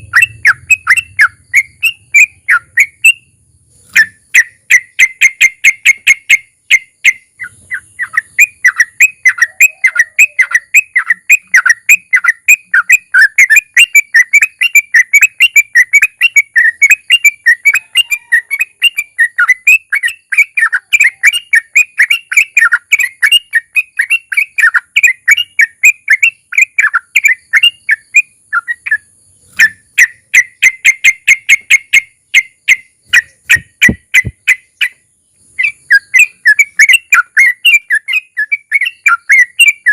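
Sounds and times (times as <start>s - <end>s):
bird chirping and rattling: 0.0s - 39.9s.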